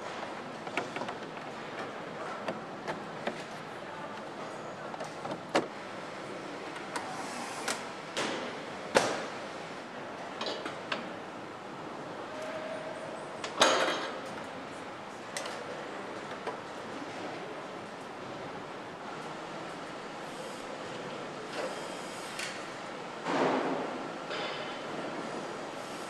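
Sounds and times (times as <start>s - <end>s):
factory background hum: 0.0s - 26.0s.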